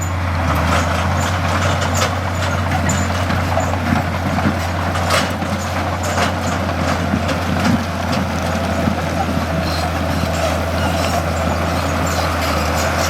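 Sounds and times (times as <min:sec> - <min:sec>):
clanks and rattles: 0:00.0 - 0:13.0
construction machinery engine running: 0:00.0 - 0:13.0.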